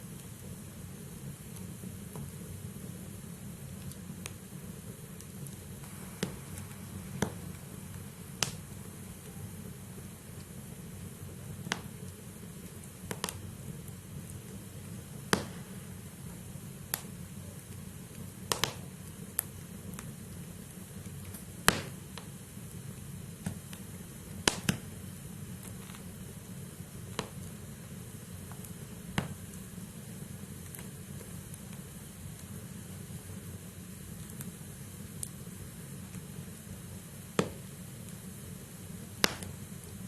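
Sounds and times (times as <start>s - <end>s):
burning logs crackling and popping: 0.0s - 40.0s
low rush of flame: 0.0s - 40.0s.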